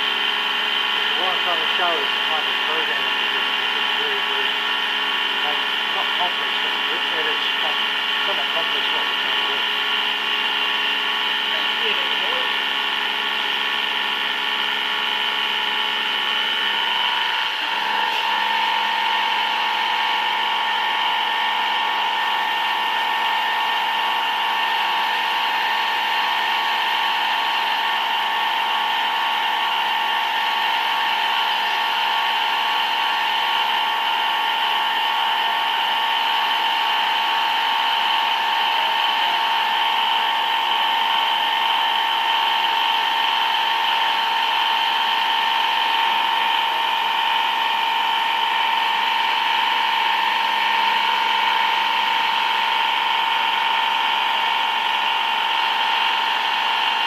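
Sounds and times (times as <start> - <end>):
machine tool high whine: 0.0 - 57.0.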